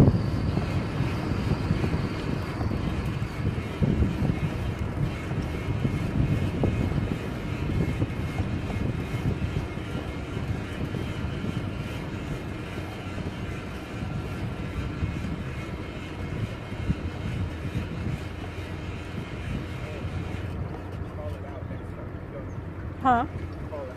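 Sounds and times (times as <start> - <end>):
tyres rolling on asphalt: 0.0 - 23.9
wind buffeting microphone: 0.0 - 23.9.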